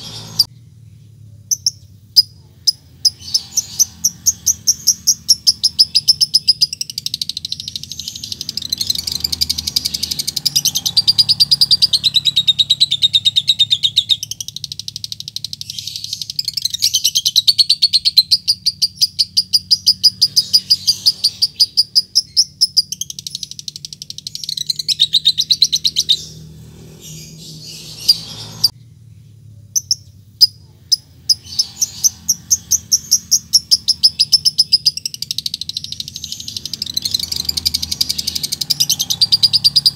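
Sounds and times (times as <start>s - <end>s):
lovebird chattering: 1.5s - 26.4s, 29.8s - 39.9s.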